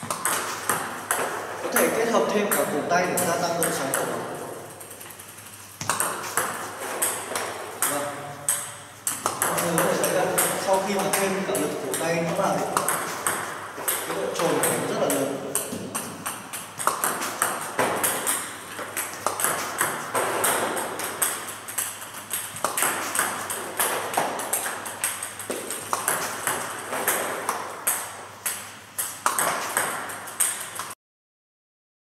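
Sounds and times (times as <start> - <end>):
ping-pong ball clicks: 0.0 - 31.0.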